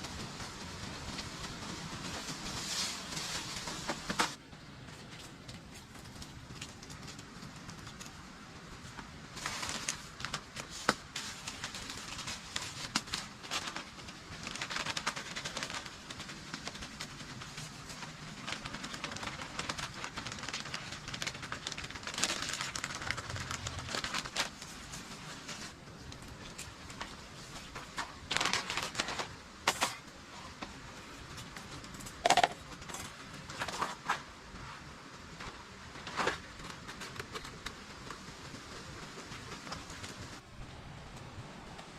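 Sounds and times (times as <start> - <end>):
rustling and crackling: 0.0 - 40.5.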